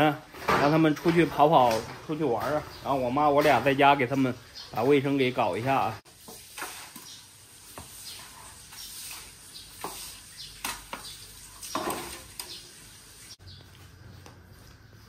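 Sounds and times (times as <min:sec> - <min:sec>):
broom sweeping wet concrete: 0:00.8 - 0:15.0.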